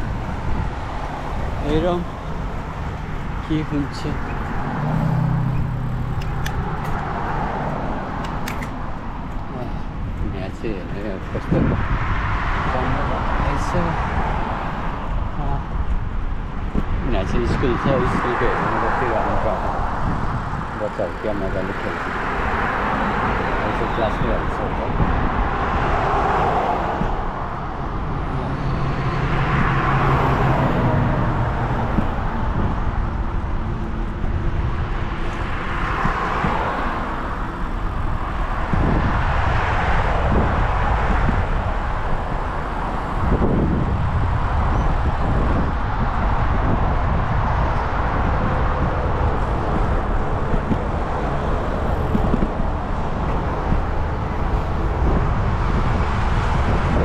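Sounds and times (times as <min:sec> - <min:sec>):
road traffic passing: 0:00.0 - 0:57.0
wind buffeting microphone: 0:00.0 - 0:57.0.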